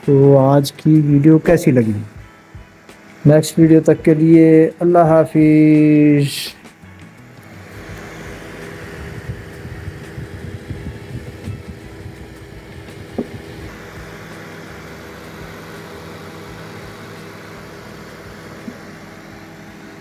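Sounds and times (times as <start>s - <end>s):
microwave oven humming: 0.0s - 20.0s.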